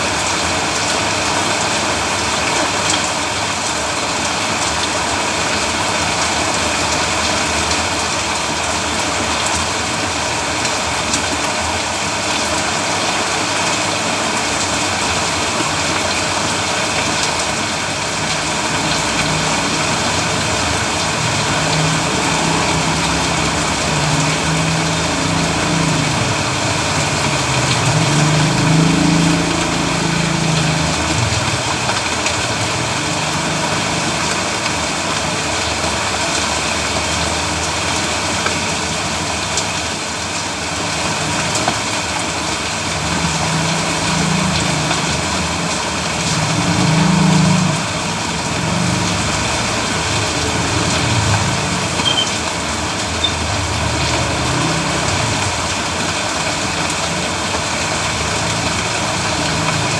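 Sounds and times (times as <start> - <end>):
rain hissing on road: 0.0 - 59.9
vehicles passing: 0.0 - 59.9.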